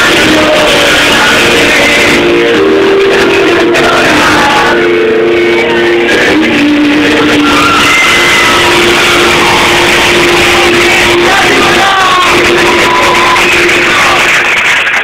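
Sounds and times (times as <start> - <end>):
live pop-rock band: 0.0 - 15.0.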